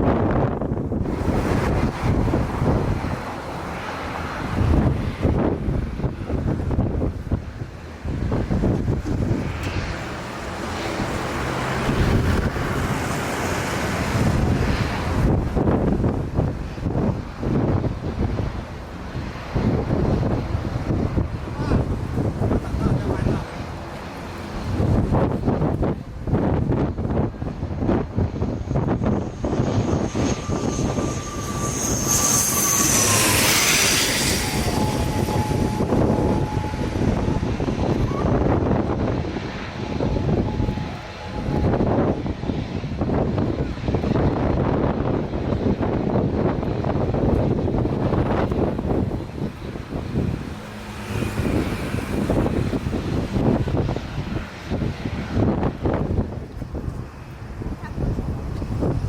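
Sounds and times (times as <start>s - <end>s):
gusty wind buffeting microphone: 0.0s - 59.0s
jet airliner passing overhead: 0.0s - 59.0s.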